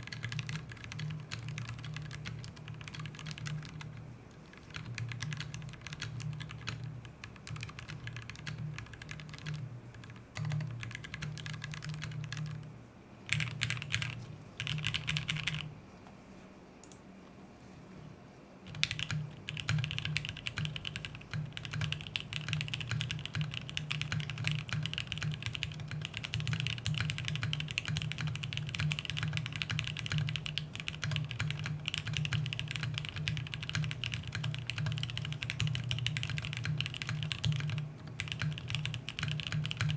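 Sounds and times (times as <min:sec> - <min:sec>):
fast typing on mechanical keyboard: 0:00.0 - 0:12.7, 0:13.3 - 0:15.7, 0:18.7 - 0:39.9.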